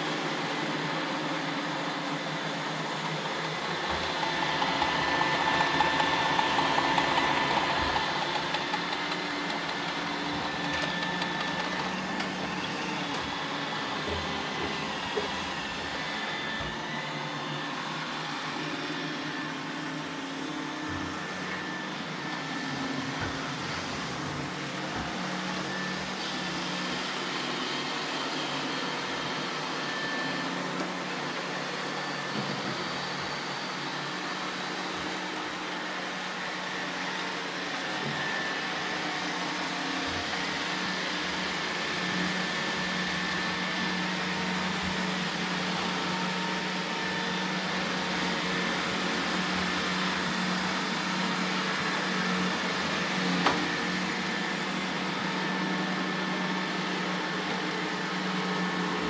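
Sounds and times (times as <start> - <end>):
robot vacuum whirring: 0.1 - 59.0.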